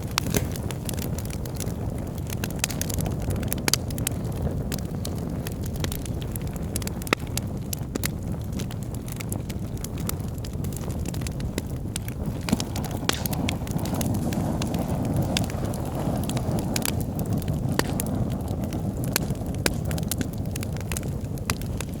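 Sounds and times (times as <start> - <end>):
fire burning with low rumble: 0.0 - 22.0
wood crackling and popping: 0.0 - 22.0.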